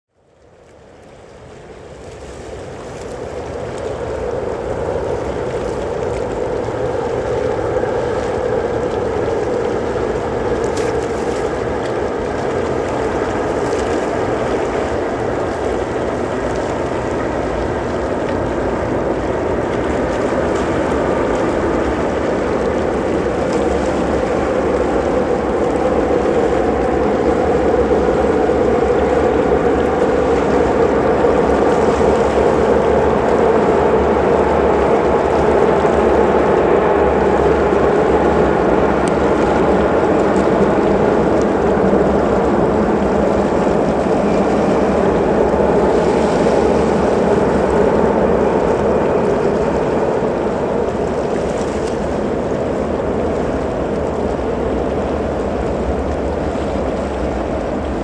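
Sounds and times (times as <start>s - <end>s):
train rumbling over steel bridge: 0.2s - 58.0s.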